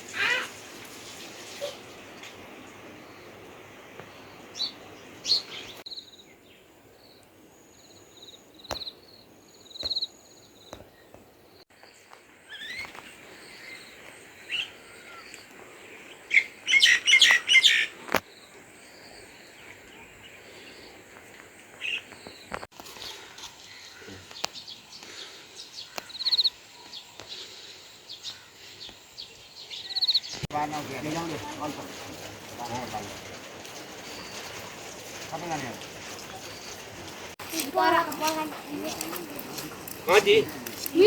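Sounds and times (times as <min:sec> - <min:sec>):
small birds chirping: 0:00.1 - 0:41.0.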